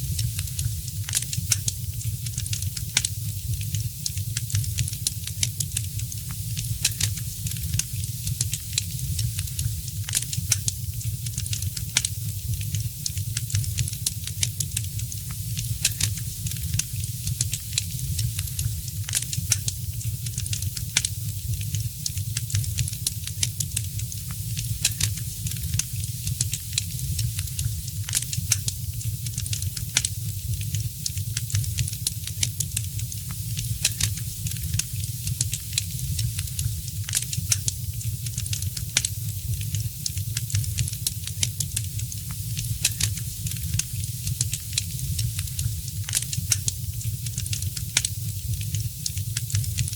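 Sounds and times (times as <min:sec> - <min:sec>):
low rumble and hiss of flames: 0:00.0 - 0:49.9
wood fire crackling and popping: 0:00.0 - 0:49.9.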